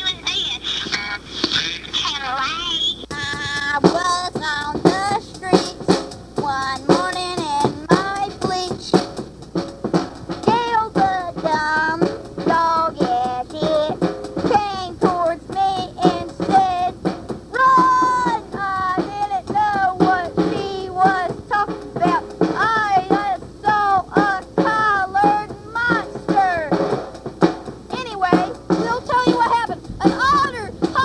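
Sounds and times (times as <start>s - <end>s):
singing over a drum beat: 2.8s - 9.4s, 10.0s - 31.0s.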